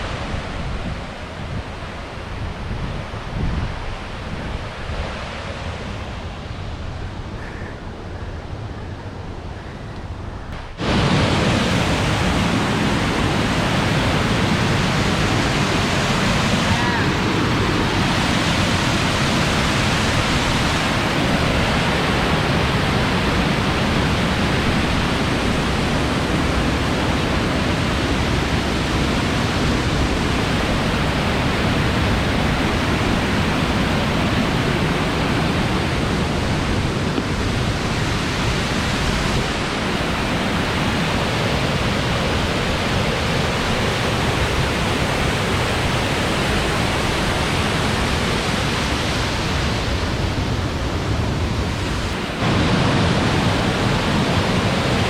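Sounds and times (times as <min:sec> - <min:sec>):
waterfall rushing: 0:10.7 - 0:55.0.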